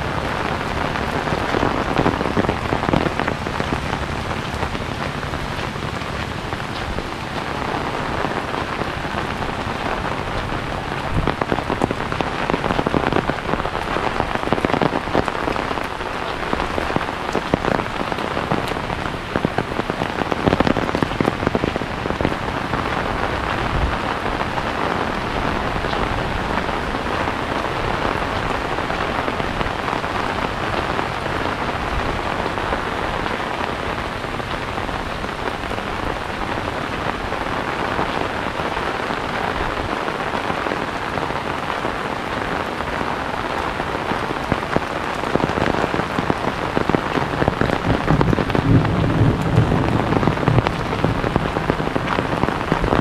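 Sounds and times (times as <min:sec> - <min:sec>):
rain hitting an umbrella: 0:00.0 - 0:53.0
rain on pavement and plants: 0:00.0 - 0:53.0.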